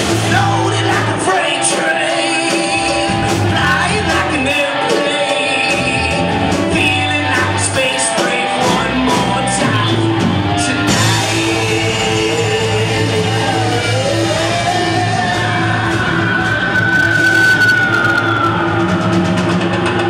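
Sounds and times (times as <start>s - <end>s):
person singing amplified: 0.0s - 16.3s
drum kit: 0.0s - 20.0s
electric guitars: 0.0s - 20.0s.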